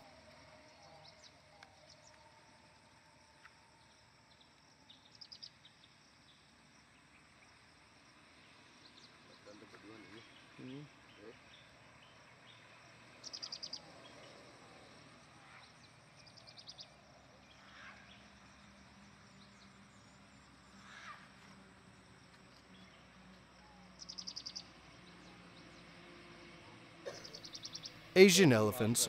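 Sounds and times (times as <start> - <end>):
faint low hum: 0.0 - 25.8.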